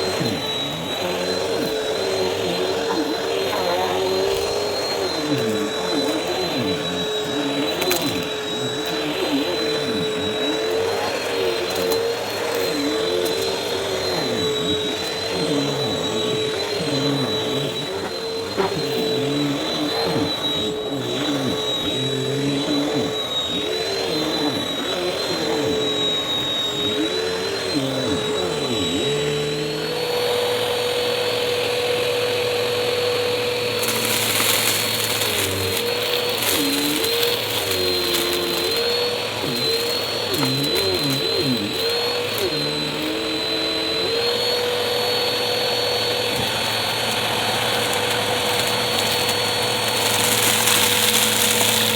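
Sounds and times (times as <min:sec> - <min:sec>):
vacuum cleaner motor whining: 0:00.0 - 0:51.9
vacuum pushed back and forth: 0:00.0 - 0:51.9.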